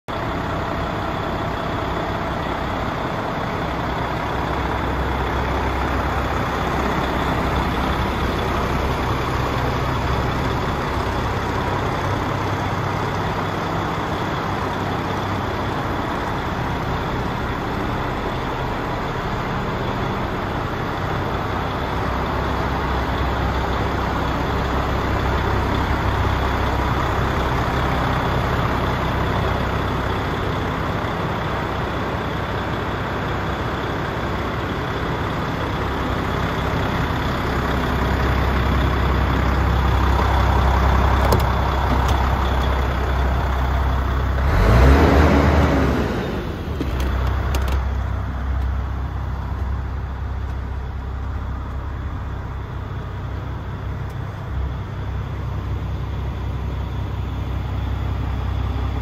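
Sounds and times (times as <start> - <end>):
diesel engine idling: 0.1 - 59.0.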